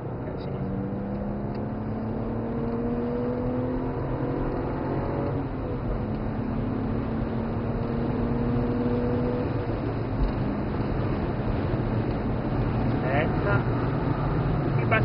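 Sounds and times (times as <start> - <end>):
car engine accelerating: 0.0 - 15.0
road and tyre noise: 0.0 - 15.0.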